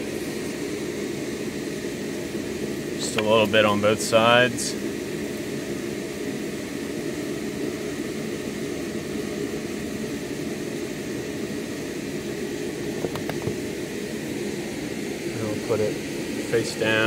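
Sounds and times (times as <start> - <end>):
machinery drone: 0.0 - 17.0.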